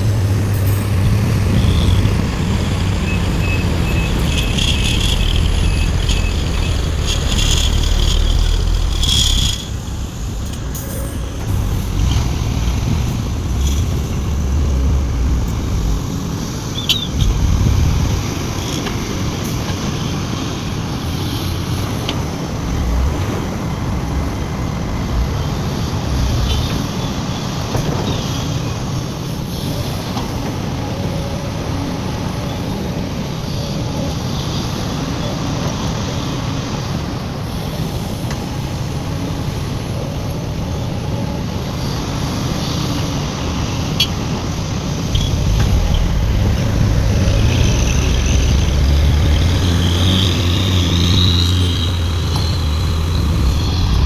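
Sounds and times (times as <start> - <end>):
heavy diesel engines rumbling: 0.0 - 54.0.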